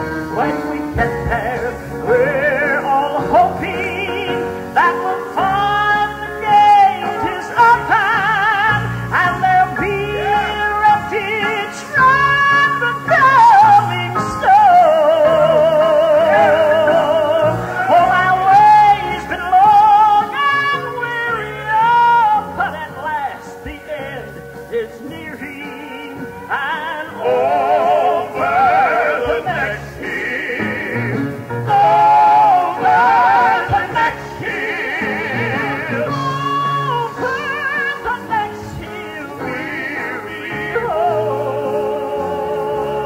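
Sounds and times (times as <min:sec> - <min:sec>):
band accompaniment: 0:00.0 - 0:43.0
person singing with vibrato: 0:00.0 - 0:43.0.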